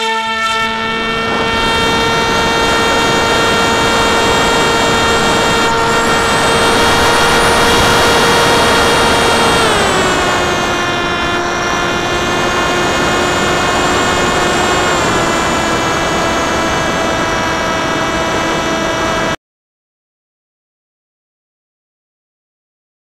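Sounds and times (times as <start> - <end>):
electric motor whine: 0.0 - 19.4
wind rush: 0.6 - 19.4.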